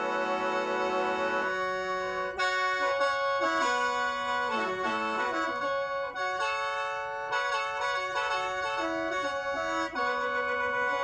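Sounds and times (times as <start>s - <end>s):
mouth organ melody over drone: 0.0s - 11.0s.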